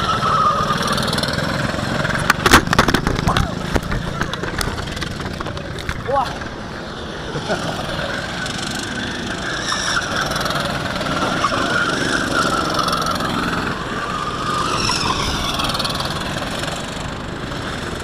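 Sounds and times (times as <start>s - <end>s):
go-kart engine running: 0.0s - 18.0s.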